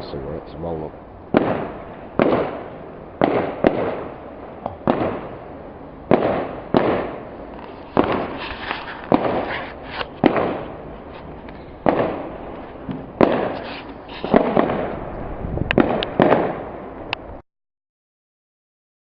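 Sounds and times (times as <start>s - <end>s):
fireworks bangs with echo: 1.3s - 17.0s
distant fireworks bangs: 1.3s - 17.4s.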